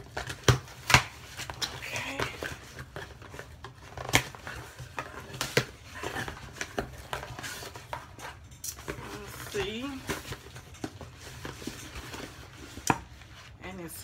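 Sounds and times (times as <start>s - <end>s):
cardboard scraping and rustling: 0.0s - 13.6s.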